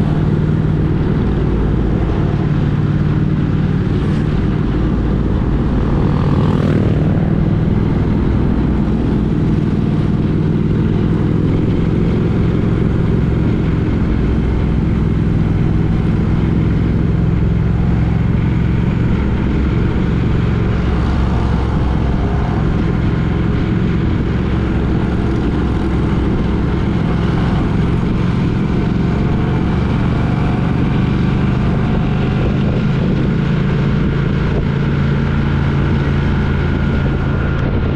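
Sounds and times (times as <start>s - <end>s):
motorcycle engine cruising: 0.0s - 37.9s
wind and road noise: 0.0s - 37.9s.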